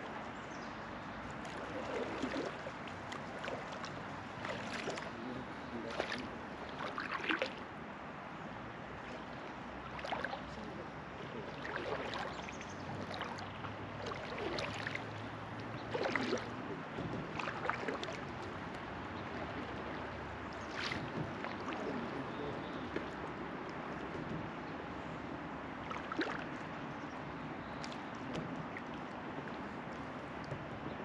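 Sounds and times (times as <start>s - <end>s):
river water running: 0.0s - 31.0s
water splashing against raft: 1.0s - 7.7s, 8.9s - 27.1s, 27.7s - 31.0s.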